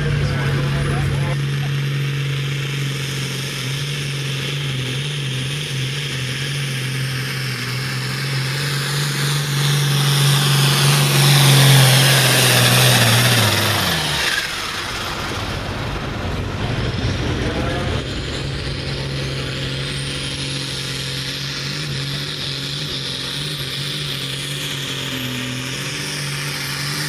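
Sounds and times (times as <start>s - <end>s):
diesel tractor engine at full throttle: 0.0s - 27.0s.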